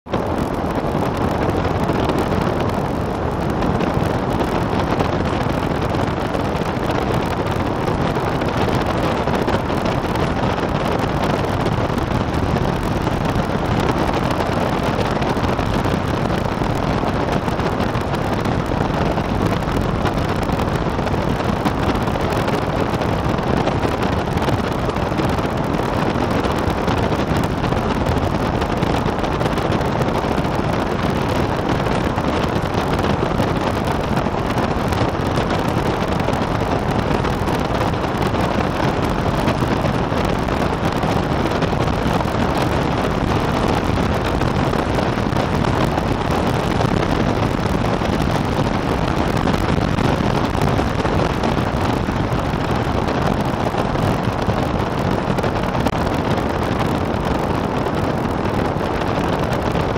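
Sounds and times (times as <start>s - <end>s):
wind rushing on microphone: 0.0s - 59.9s
aircraft engine and rotor noise: 0.1s - 59.9s.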